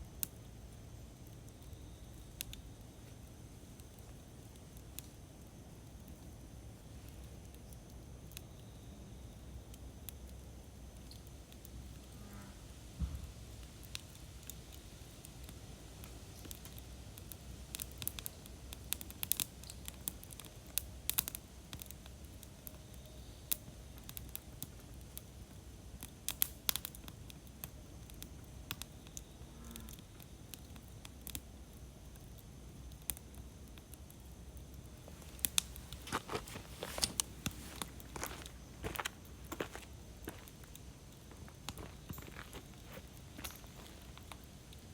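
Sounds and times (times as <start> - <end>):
low rumble of burning fire: 0.0 - 44.9
campfire pops and snaps: 0.1 - 0.5, 1.2 - 6.4, 9.3 - 12.1, 13.0 - 29.3, 29.9 - 44.9.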